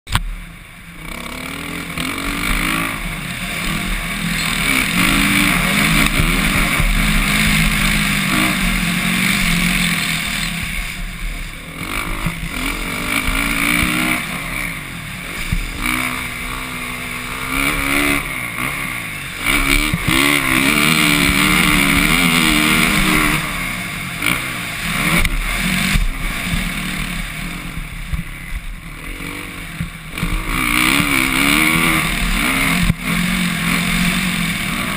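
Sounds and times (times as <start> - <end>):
dirt bike engine revving: 0.8 - 34.9.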